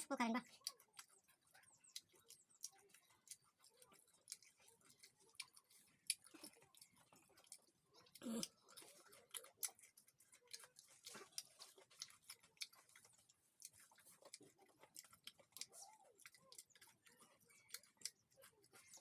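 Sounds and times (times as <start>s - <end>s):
chewing crispy snacks: 0.0s - 19.0s.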